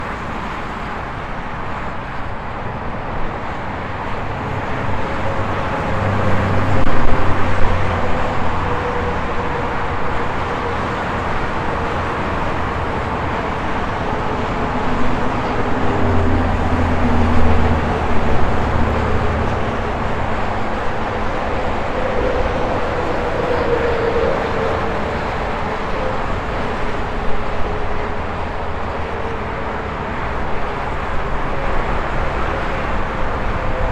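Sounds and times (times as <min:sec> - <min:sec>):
highway traffic: 0:00.0 - 0:33.9.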